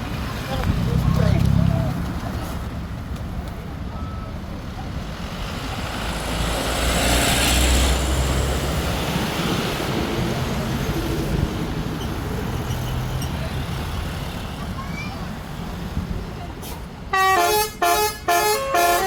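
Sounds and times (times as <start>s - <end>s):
bus driving past: 0.0s - 19.0s
road traffic noise: 0.0s - 19.0s.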